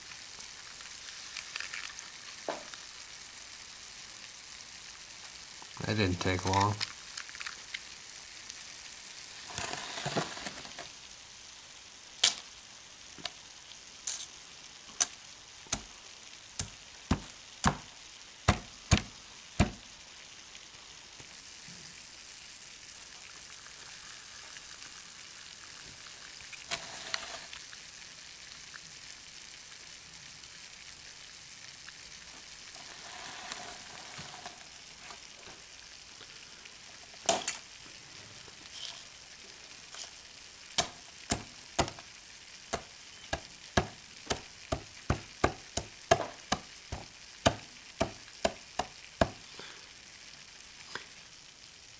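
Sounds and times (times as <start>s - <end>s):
dry ice fizzing hiss: 0.0s - 51.9s.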